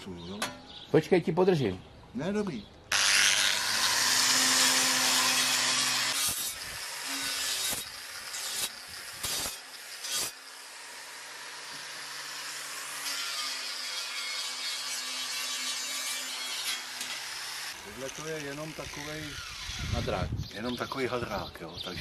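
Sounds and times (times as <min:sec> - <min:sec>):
angle grinder grinding metal: 0:02.9 - 0:20.8.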